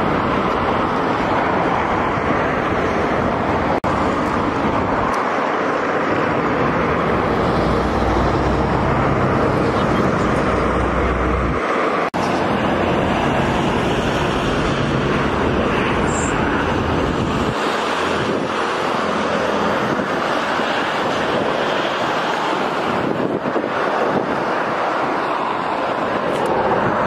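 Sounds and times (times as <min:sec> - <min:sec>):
car tyre and road noise: 0:00.0 - 0:27.0
wind rush on microphone: 0:00.0 - 0:27.0.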